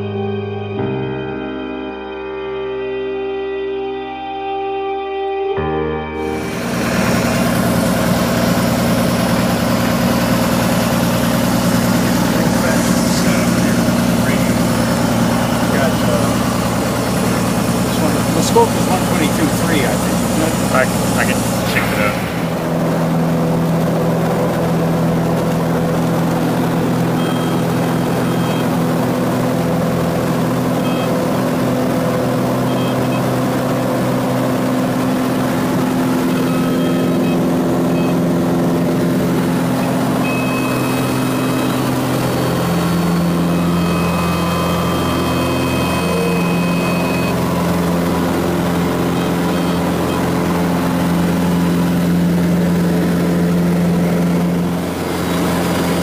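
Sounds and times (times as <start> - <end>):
light aircraft engine and propeller: 6.2 - 56.0.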